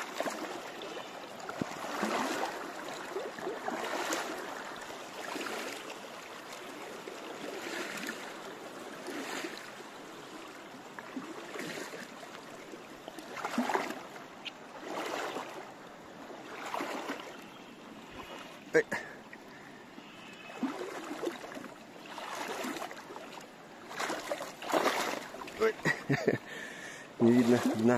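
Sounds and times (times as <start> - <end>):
stream rushing: 0.0 - 27.9
water splashing from wading: 0.0 - 27.9.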